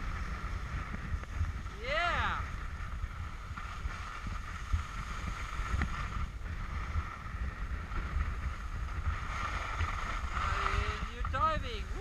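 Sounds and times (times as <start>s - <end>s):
skis scraping over snow: 0.0s - 12.0s
wind buffeting microphone: 0.0s - 12.0s.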